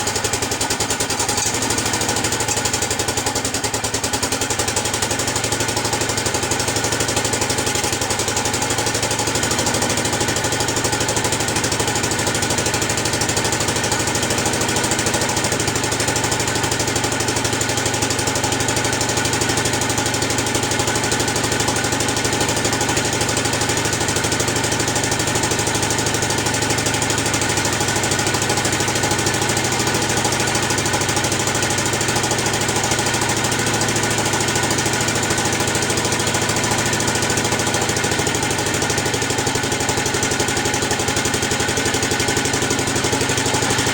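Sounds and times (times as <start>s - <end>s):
single-cylinder engine running: 0.0s - 43.9s.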